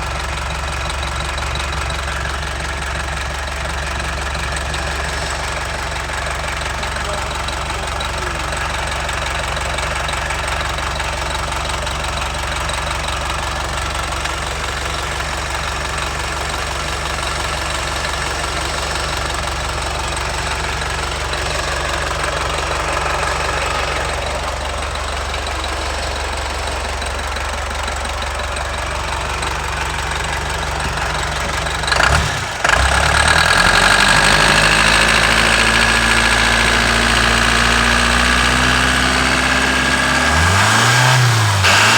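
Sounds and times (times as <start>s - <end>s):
diesel engine idling and revving: 0.0s - 41.9s.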